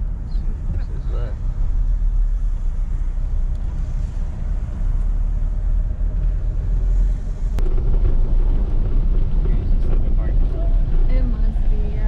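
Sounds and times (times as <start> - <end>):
car driving rumble from inside: 0.0 - 12.0.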